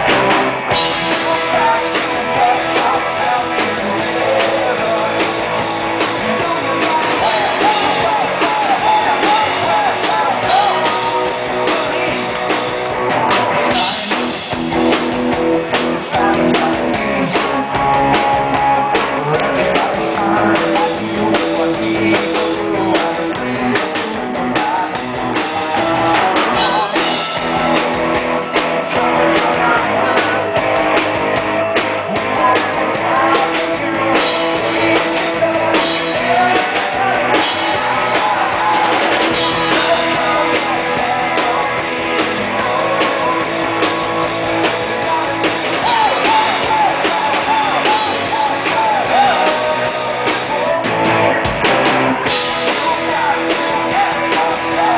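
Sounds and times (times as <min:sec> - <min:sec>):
live rock band playing: 0:00.0 - 0:54.9
person singing: 0:00.0 - 0:54.9.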